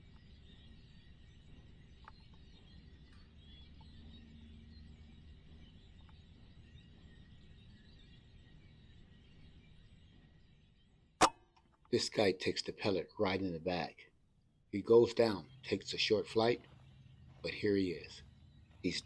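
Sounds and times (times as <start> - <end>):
faint distant chirps: 0.0 - 19.0.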